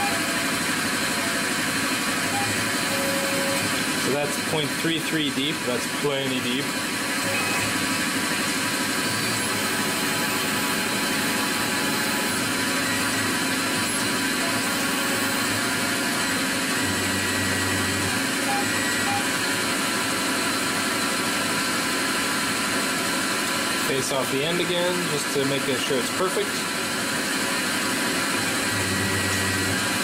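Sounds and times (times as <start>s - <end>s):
lathe whirring hum: 0.0s - 30.0s.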